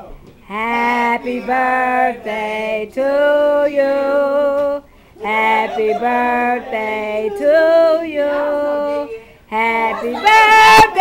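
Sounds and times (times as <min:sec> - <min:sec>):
women singing together: 0:00.5 - 0:11.0.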